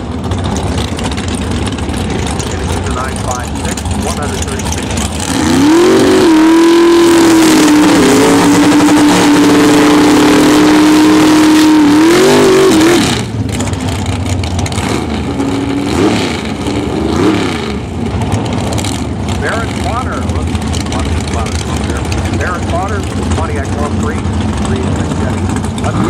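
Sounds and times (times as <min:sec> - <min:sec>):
engine at high revs: 0:00.0 - 0:26.0
engine rev blips: 0:01.0 - 0:26.0.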